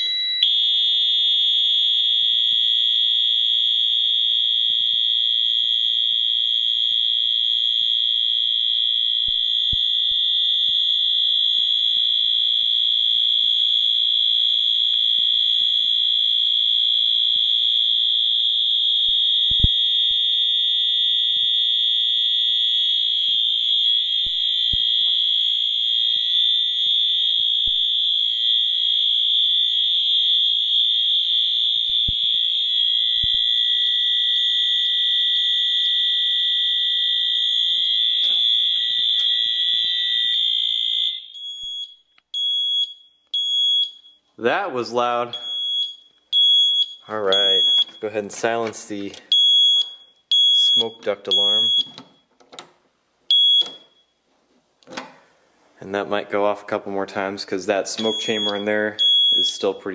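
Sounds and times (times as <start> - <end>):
fire alarm horn steady tone: 0.0 - 44.3, 45.2 - 52.3, 53.3 - 54.2, 58.0 - 59.9.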